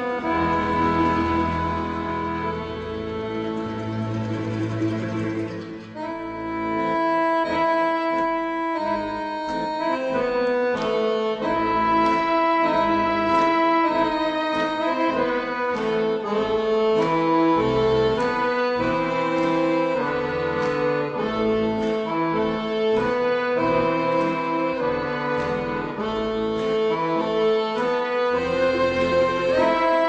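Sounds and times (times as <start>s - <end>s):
reedy wind instrument melody: 0.0s - 30.0s.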